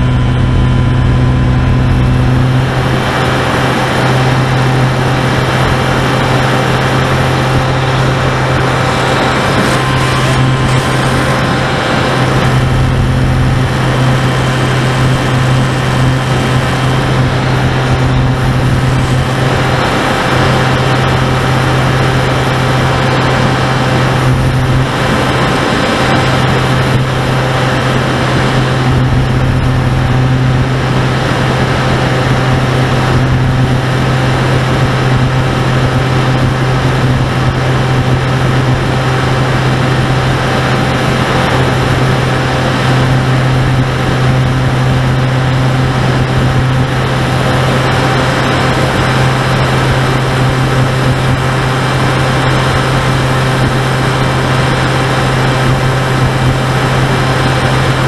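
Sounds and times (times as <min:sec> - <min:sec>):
model plane motor and propeller: 0:00.0 - 0:58.0
rush of air over microphone: 0:00.0 - 0:58.0.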